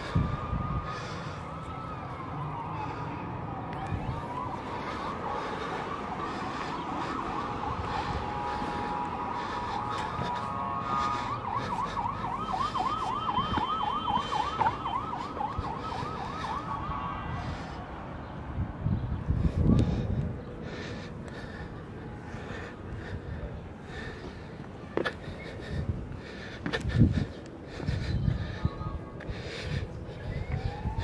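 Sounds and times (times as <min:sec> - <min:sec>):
emergency vehicle siren: 0:00.0 - 0:31.0.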